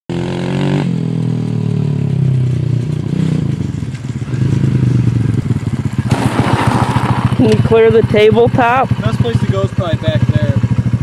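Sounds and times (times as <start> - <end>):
minibike engine revving: 0.1 - 11.0.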